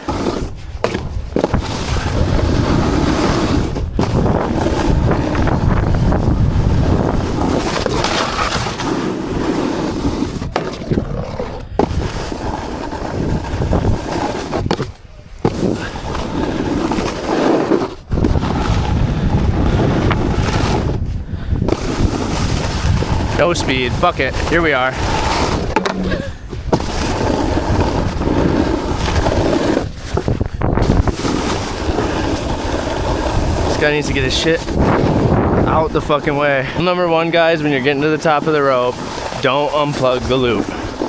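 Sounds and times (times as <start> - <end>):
board scraping: 0.0 - 41.0
wind rushing over microphone: 0.0 - 41.0.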